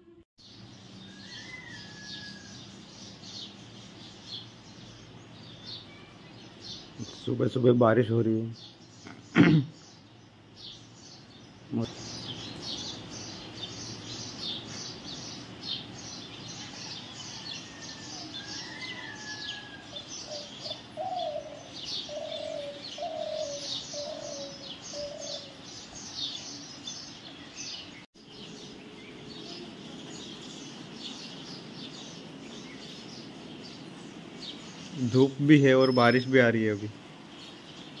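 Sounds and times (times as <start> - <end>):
lower bird call: 0.0 - 7.7, 8.5 - 38.0
birds chirping: 0.0 - 38.0.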